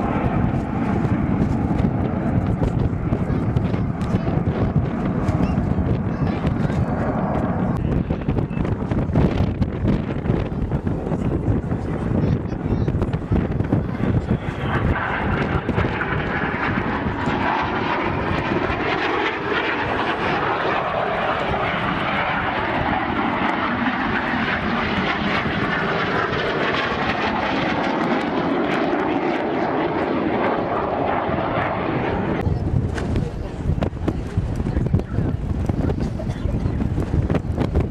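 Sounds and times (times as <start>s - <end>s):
aeroplane engine passing overhead: 0.0s - 37.9s.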